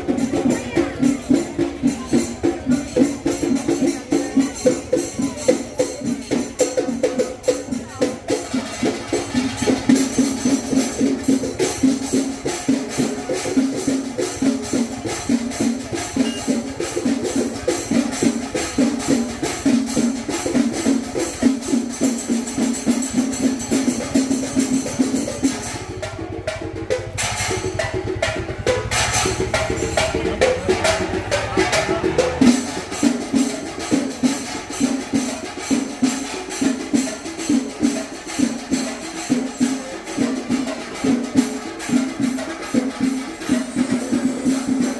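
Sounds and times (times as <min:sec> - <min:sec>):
cymbals: 0:00.0 - 0:44.9
drums beaten in fast rhythm: 0:00.0 - 0:44.9.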